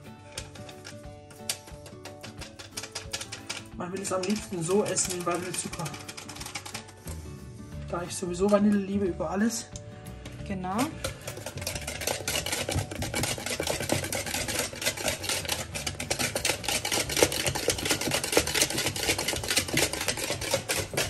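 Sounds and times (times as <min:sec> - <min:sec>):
wire whisk beating batter: 0:00.0 - 0:07.4, 0:10.2 - 0:21.0.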